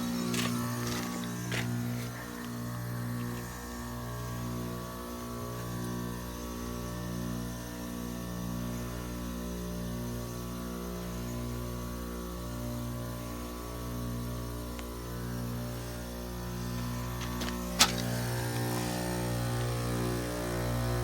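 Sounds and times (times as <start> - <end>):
heat pump units humming: 0.0 - 21.0.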